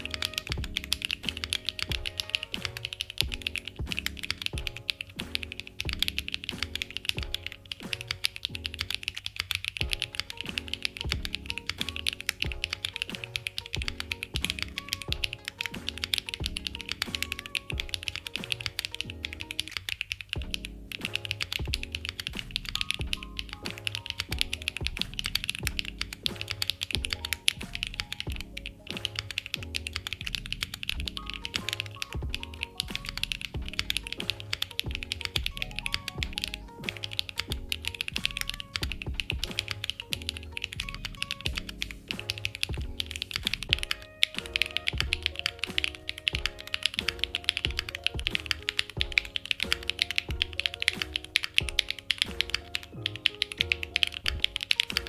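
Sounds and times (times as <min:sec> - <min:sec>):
background music: 0:00.0 - 0:55.0
mechanical keyboard typing: 0:00.0 - 0:55.0.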